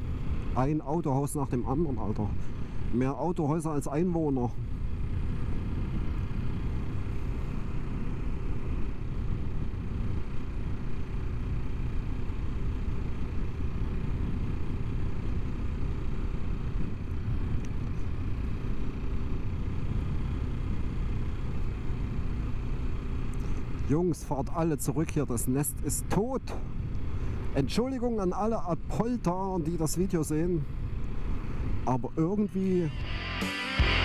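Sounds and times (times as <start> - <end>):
motorcycle engine low rumble: 0.0 - 34.0.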